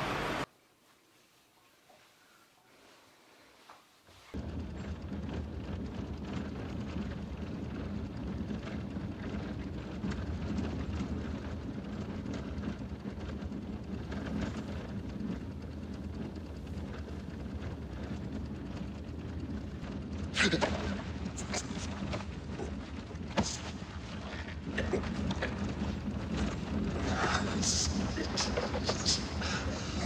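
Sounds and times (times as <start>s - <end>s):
dense low rumbling: 4.4s - 30.0s.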